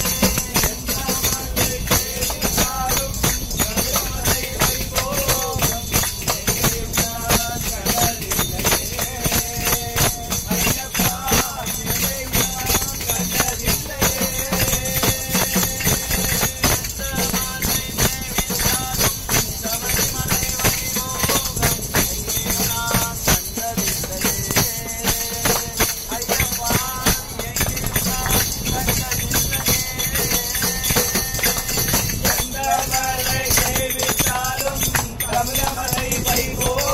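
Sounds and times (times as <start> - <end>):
group singing devotional song: 0.0 - 36.9
jingling percussion: 0.0 - 36.9
rhythmic hand-clapping: 0.0 - 36.9.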